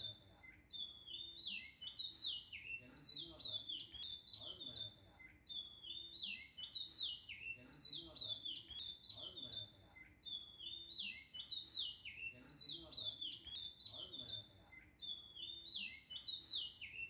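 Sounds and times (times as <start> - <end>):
birds chirping whistled notes: 0.0 - 17.0.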